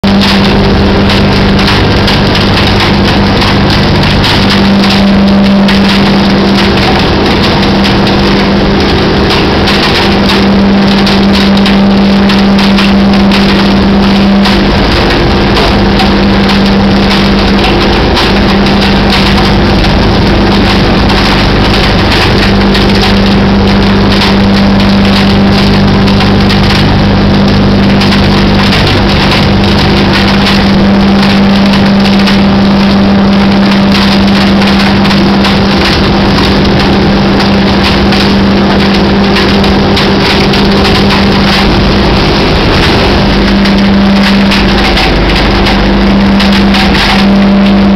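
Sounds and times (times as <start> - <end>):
truck engine humming: 0.0 - 47.9.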